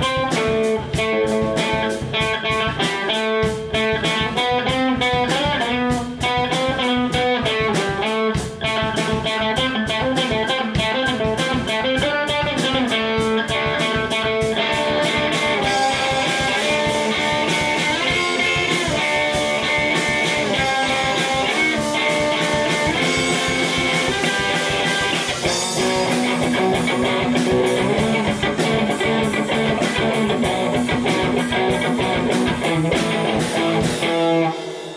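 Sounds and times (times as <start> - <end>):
electric guitar playing: 0.0 - 34.9
steady drum beat: 0.0 - 34.9.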